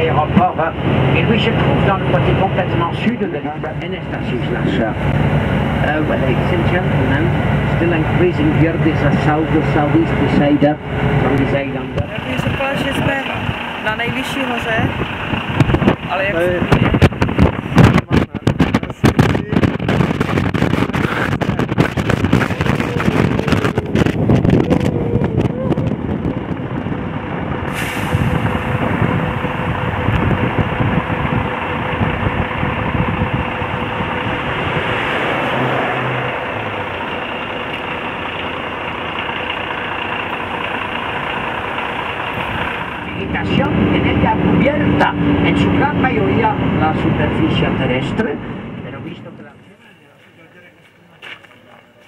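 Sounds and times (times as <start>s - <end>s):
bus engine and road noise: 0.0s - 52.0s
wind buffeting microphone: 4.1s - 49.2s.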